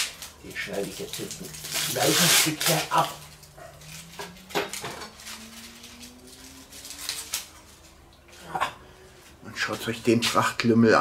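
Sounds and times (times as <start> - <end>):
faint hum rising in pitch: 0.1 - 10.6.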